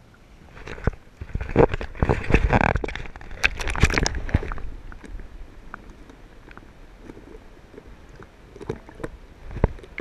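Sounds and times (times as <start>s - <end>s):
dull underwater wash: 0.0s - 10.0s
water splashing and sloshing: 0.0s - 10.0s.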